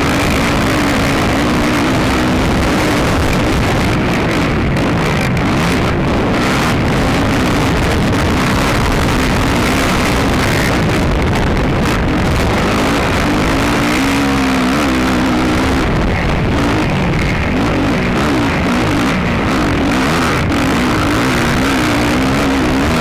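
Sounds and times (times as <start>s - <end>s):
atv engine running hard: 0.0s - 23.0s
rush of wind: 0.0s - 23.0s.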